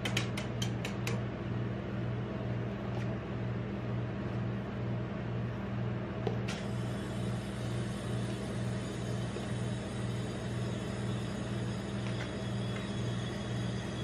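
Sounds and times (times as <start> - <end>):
refrigeration unit humming: 0.0 - 14.0.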